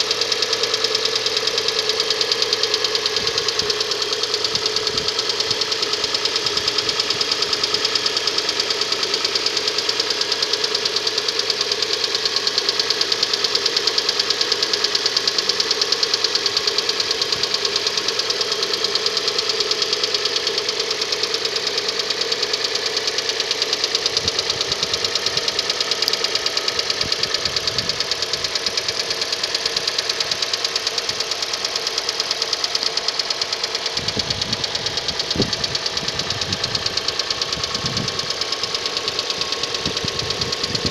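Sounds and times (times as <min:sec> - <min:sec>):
engine idling with clatter: 0:00.0 - 0:40.9.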